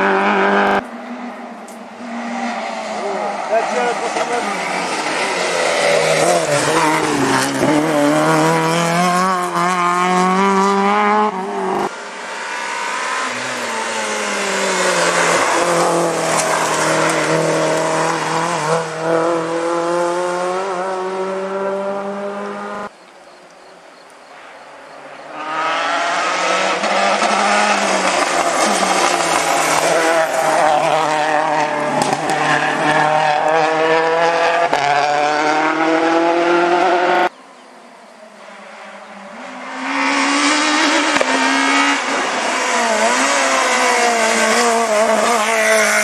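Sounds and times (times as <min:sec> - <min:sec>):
rally car engines revving: 0:00.0 - 0:22.9, 0:25.1 - 0:46.0.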